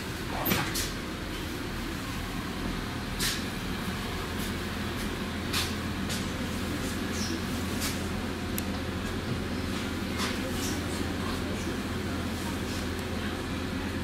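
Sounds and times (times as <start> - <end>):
vehicle rumble in cabin: 0.0 - 14.0.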